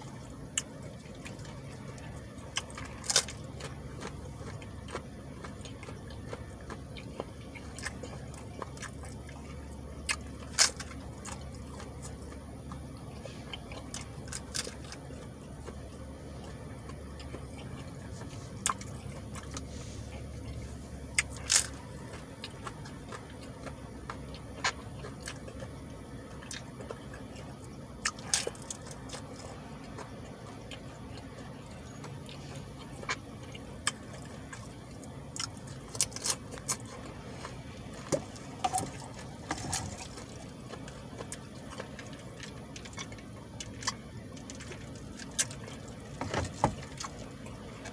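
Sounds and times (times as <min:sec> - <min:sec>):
steady low hum: 0:00.0 - 0:47.9
wet chewing mouth sounds: 0:00.0 - 0:47.9
sharp clicks and crunches: 0:00.5 - 0:25.8, 0:26.4 - 0:47.9.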